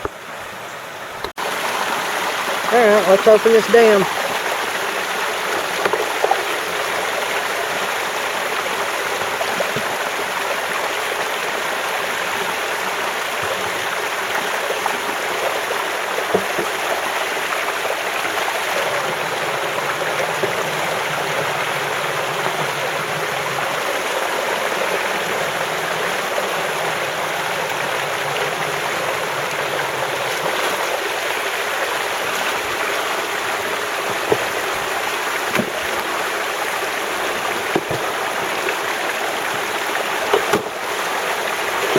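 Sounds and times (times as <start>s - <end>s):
creek water rushing over dam: 0.0s - 41.9s.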